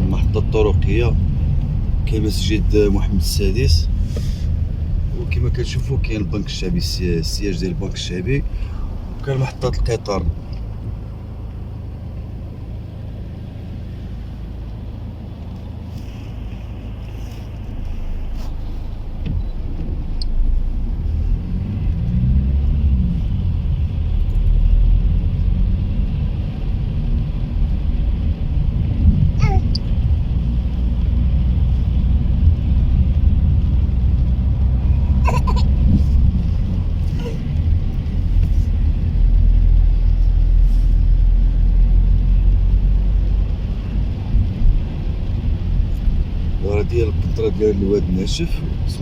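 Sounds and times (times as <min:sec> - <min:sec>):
car engine and road rumble: 0:00.0 - 0:49.0.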